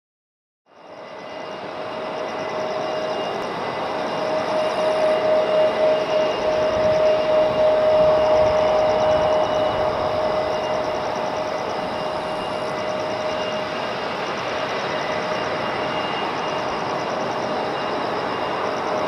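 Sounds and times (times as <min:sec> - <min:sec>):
jet engine whine: 0:00.7 - 0:19.0
distant jet engines rushing: 0:00.8 - 0:19.0.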